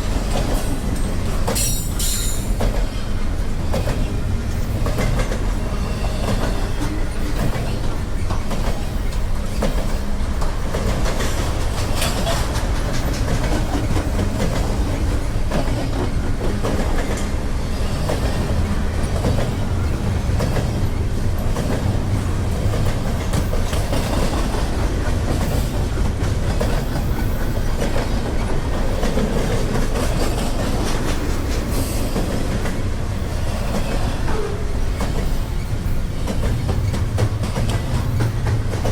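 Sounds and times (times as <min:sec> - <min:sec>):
train wheels clicking: 0:00.0 - 0:38.9
train wheels rumbling on rail: 0:00.0 - 0:38.9.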